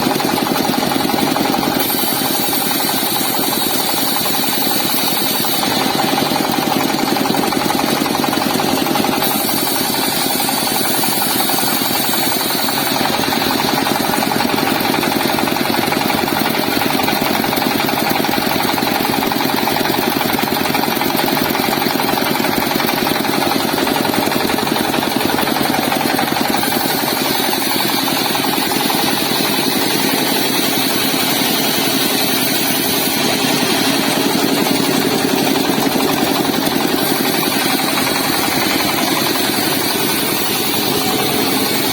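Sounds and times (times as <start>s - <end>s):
car engine running steadily: 0.0s - 41.9s.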